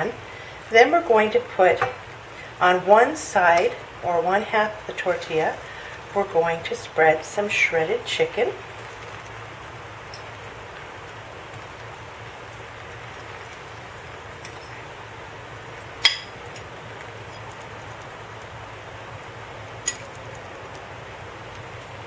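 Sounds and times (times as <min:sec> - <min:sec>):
oil sizzling in a frying pan: 0:00.0 - 0:22.0.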